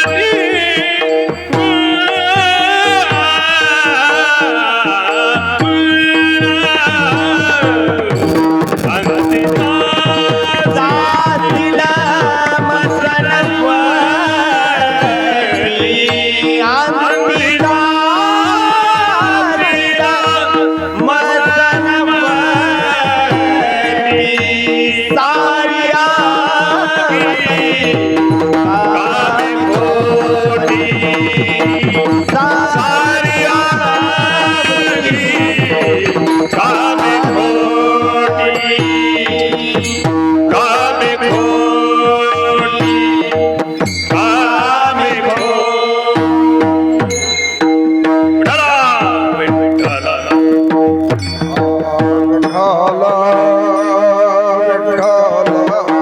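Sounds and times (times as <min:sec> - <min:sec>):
hand drum: 0:00.0 - 0:25.4, 0:26.2 - 0:53.8
person singing melody: 0:00.0 - 0:56.0.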